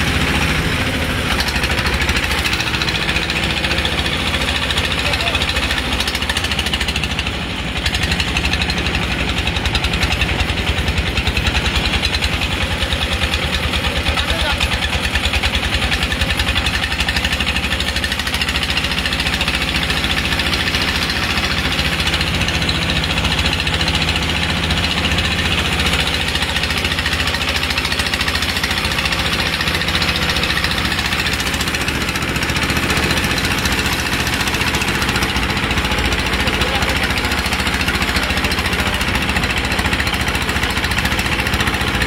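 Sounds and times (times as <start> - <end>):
boat engine chugging: 0.0 - 42.0.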